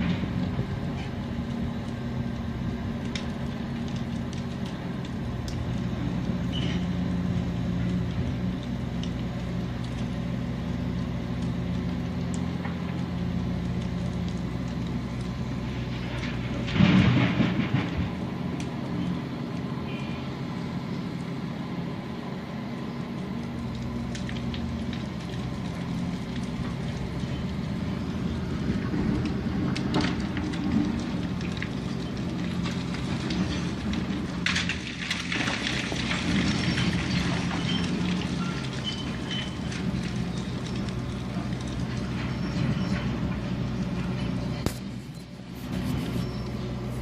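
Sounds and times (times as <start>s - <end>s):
heavy vehicle engine running: 0.0s - 47.0s.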